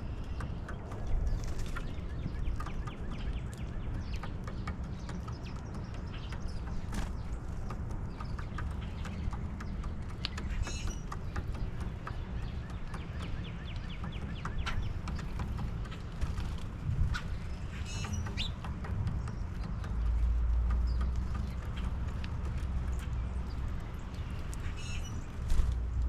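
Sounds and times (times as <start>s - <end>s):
bird trill: 0.0s - 16.2s, 17.1s - 20.2s, 23.8s - 25.4s
birds chirping and calling: 0.0s - 25.9s
steady low rumble: 0.0s - 26.0s.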